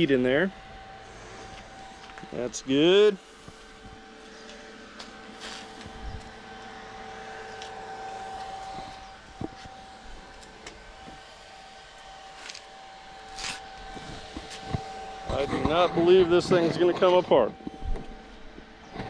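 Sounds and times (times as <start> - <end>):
two-note mechanical hum: 0.0 - 19.0.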